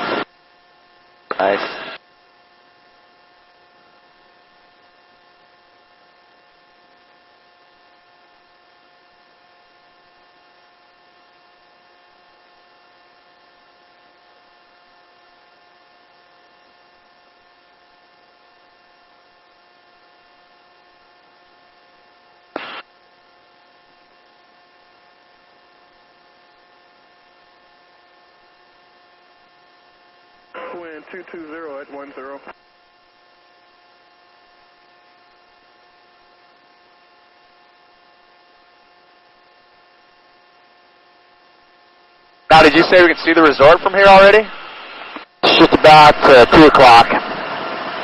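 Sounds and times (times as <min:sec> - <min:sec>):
intercom electrical hum and hiss: 0:00.0 - 0:48.0.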